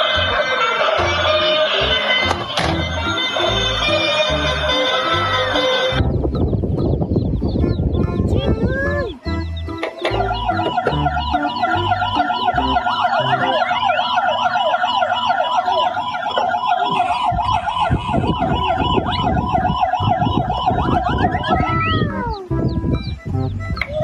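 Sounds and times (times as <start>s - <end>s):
toy sirens warbling: 0.0s - 6.0s, 8.9s - 24.0s.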